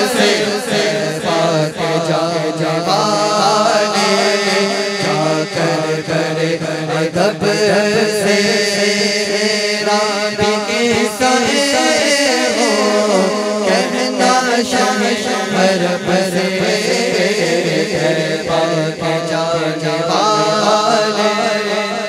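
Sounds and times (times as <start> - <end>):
man singing unaccompanied: 0.0 - 22.0
men chanting drone: 0.0 - 22.0.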